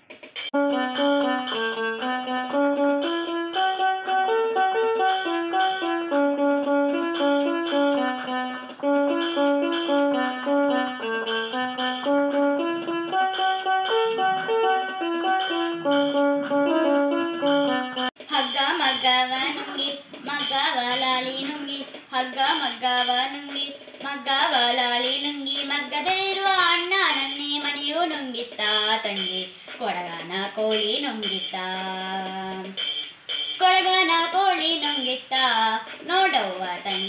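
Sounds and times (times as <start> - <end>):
electronic keyboard melody: 0.0 - 24.0, 24.6 - 37.0.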